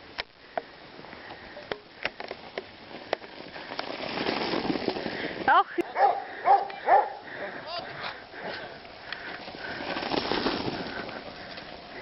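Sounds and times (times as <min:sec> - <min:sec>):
bicycle tyres in snow: 0:00.0 - 0:12.0.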